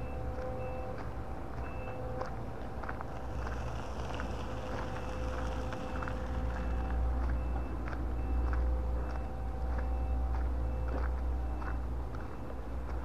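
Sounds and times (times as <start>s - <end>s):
reversing alarm beeps: 0.0s - 2.6s, 3.4s - 13.0s
faint footsteps on path: 0.0s - 13.0s
heavy vehicle engine rumble: 0.0s - 13.0s.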